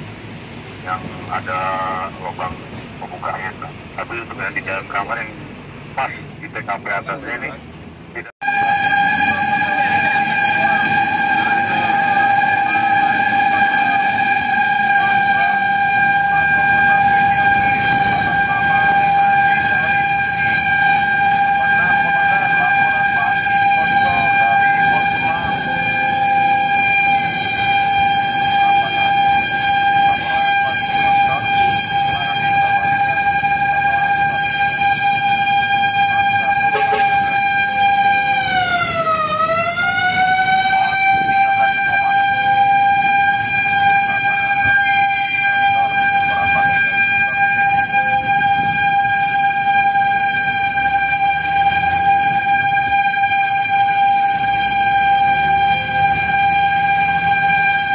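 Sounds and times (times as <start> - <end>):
fire truck siren: 0.0 - 57.9
truck engine and road noise: 0.0 - 57.9.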